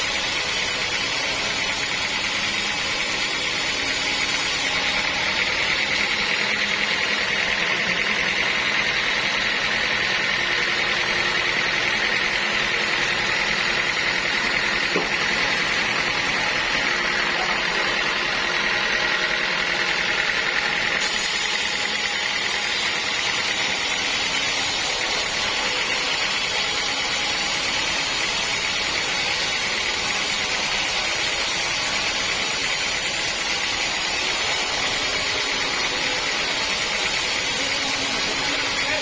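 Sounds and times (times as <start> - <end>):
sawmill saw running: 0.0 - 39.0.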